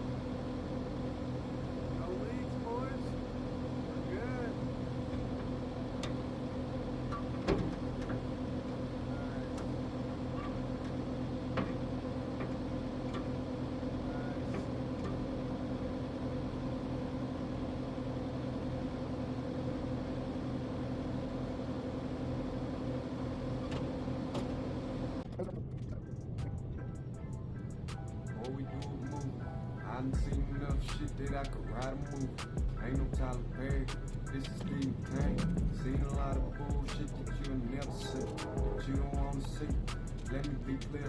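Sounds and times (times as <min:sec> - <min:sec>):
diesel engine idling: 0:00.0 - 0:25.4, 0:26.0 - 0:41.0.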